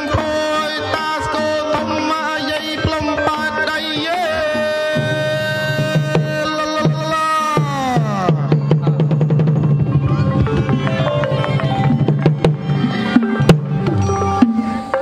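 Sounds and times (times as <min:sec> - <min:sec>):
held melodic line: 0:00.0 - 0:15.0
quick struck notes: 0:00.0 - 0:15.0
steady drum beat: 0:02.8 - 0:15.0.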